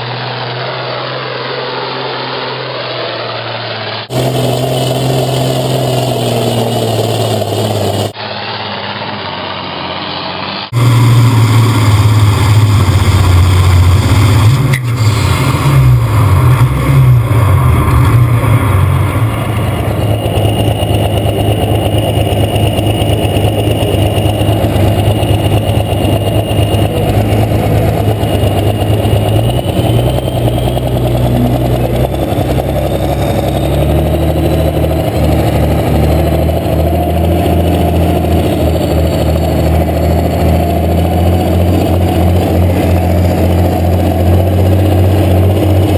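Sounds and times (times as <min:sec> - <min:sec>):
diesel tractor engine running hard: 0:00.0 - 0:45.9.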